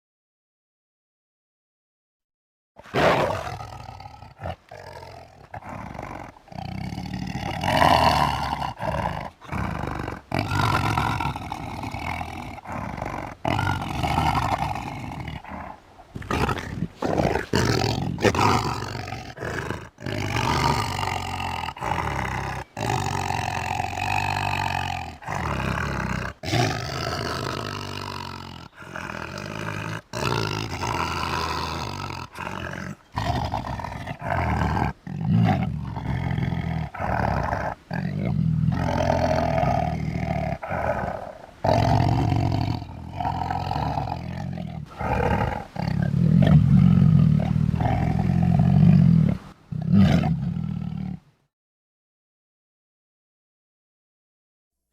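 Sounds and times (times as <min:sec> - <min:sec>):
big cat roaring and growling: 0:02.8 - 0:51.2.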